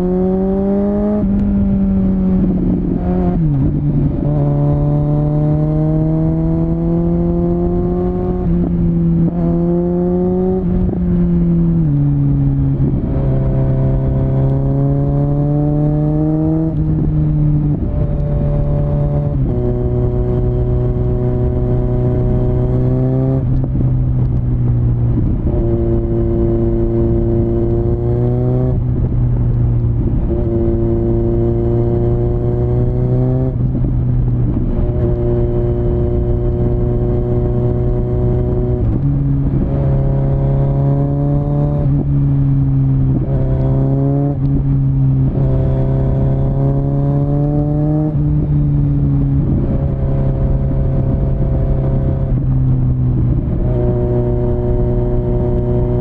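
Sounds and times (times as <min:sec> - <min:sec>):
motorcycle exhaust note: 0:00.0 - 0:56.0.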